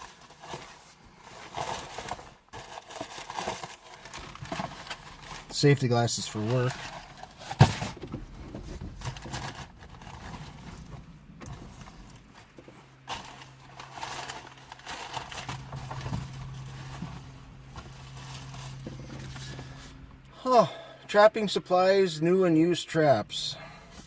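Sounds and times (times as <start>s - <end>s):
rustling and clicks of objects: 0.0s - 20.3s
low steady hum: 0.0s - 24.0s.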